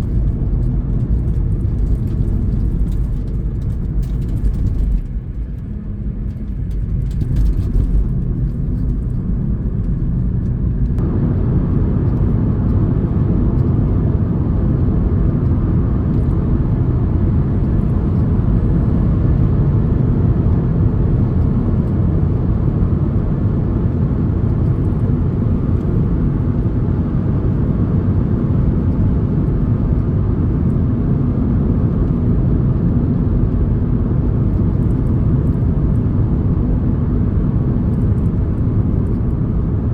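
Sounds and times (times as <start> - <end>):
vehicle engine and tyre rumble: 0.0 - 39.9.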